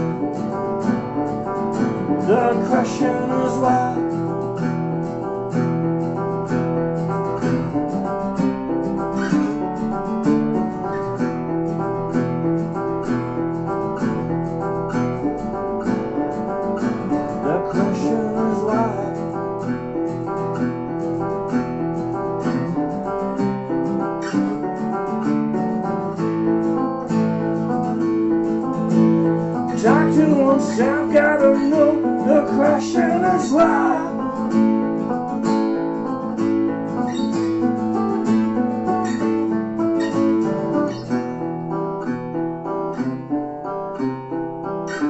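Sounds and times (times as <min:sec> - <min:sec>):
acoustic guitars strumming: 0:00.0 - 0:45.0.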